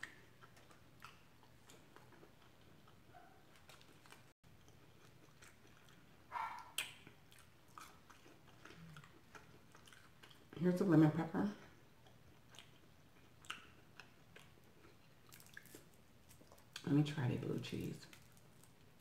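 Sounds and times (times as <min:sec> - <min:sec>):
chewing fried food: 0:00.0 - 0:19.0.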